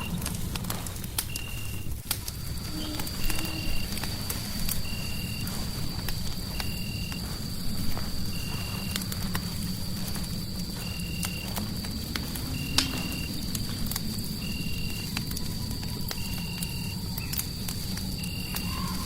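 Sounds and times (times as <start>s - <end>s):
low rumble: 0.0s - 18.8s
fireplace crackling and popping: 0.0s - 19.0s.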